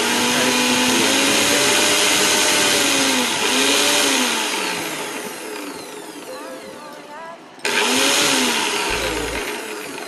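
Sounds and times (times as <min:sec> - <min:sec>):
mixer grinder motor spinning: 0:00.0 - 0:06.3, 0:07.6 - 0:10.0.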